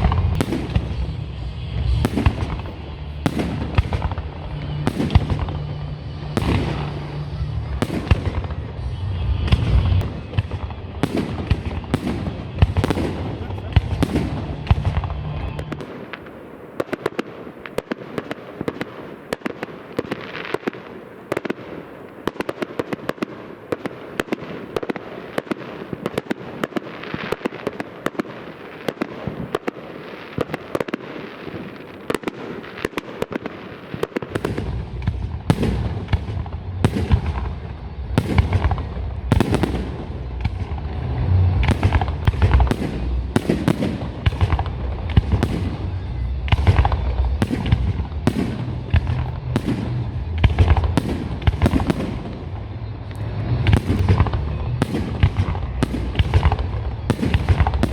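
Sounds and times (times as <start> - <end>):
crackling firework bangs: 0.0 - 57.9
deep firework bangs: 0.0 - 57.9.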